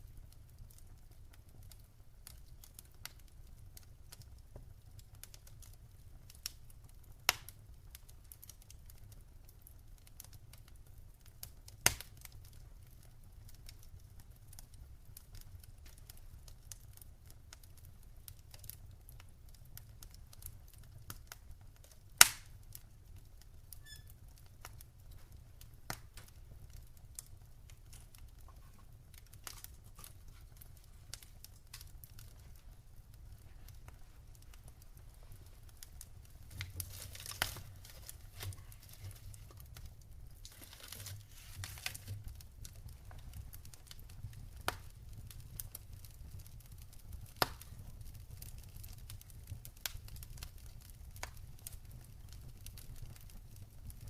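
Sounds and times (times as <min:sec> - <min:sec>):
fire rumbling: 0:00.0 - 0:54.0
wood crackling and popping: 0:00.0 - 0:54.0.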